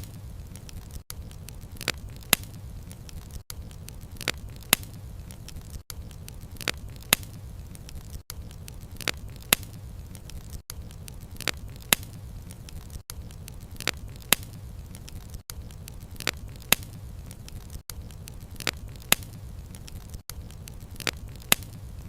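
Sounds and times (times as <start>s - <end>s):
campfire crackling: 0.0s - 22.0s
sharp pops of burning wood: 0.0s - 22.0s.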